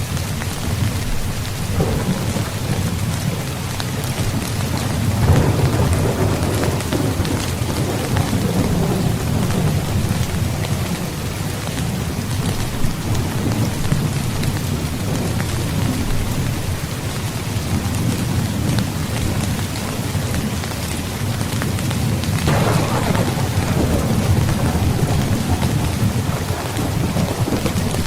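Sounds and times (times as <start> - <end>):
heavy rain: 0.0 - 28.0
rolling thunder rumble: 0.7 - 20.5, 22.0 - 28.0.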